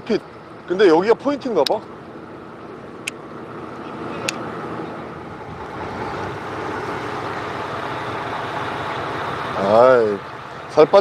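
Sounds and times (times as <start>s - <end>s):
boat engine: 0.0s - 11.0s.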